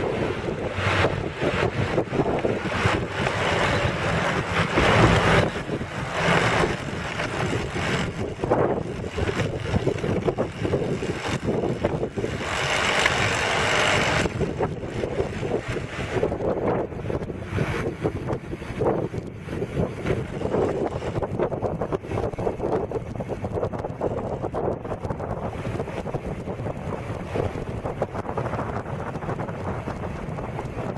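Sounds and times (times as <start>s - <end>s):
road and traffic noise: 0.0s - 30.9s
wind buffeting microphone: 0.0s - 30.9s.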